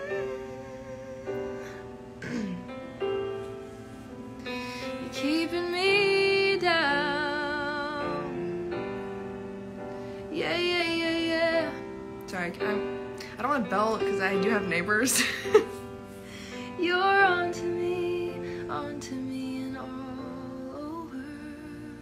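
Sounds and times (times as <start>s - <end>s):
woman singing wordless melody: 0.0s - 2.8s, 4.4s - 9.3s, 10.0s - 22.0s
piano chords: 0.0s - 22.0s.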